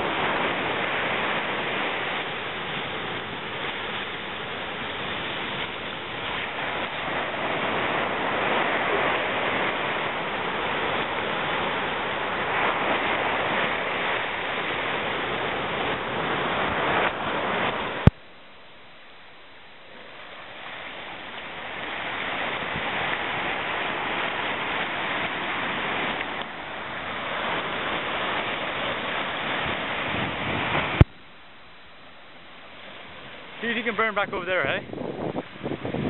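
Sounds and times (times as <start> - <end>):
ocean surf breaking on beach: 0.0 - 36.0.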